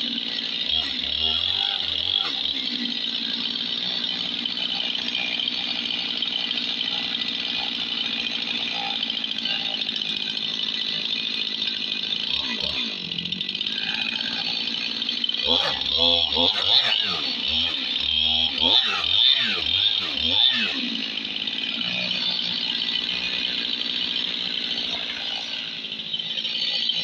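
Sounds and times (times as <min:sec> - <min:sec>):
chainsaw cutting log: 0:00.0 - 0:27.0.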